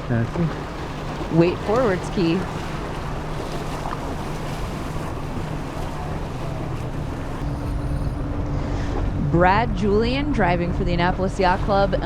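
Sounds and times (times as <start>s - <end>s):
steady low drone: 0.0s - 12.0s
water sloshing around boat: 0.0s - 12.0s
wind buffeting microphone: 0.0s - 12.0s.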